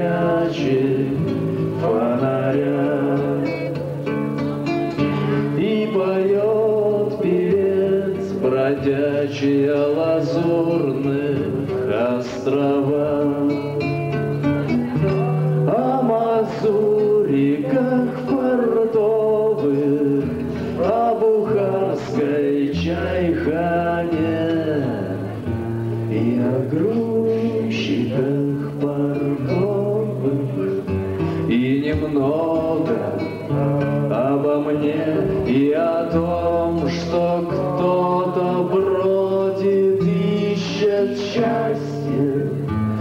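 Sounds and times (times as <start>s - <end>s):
man singing: 0.0s - 42.8s
classical guitar: 0.0s - 43.0s.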